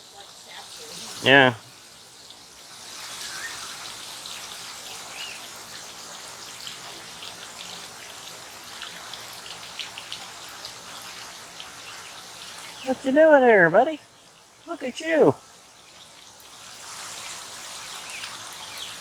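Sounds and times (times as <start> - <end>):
falling water patter: 0.0 - 19.0.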